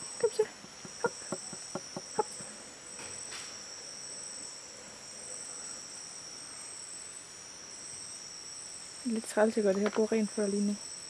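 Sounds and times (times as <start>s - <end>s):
rainforest insect chorus: 0.0s - 11.0s.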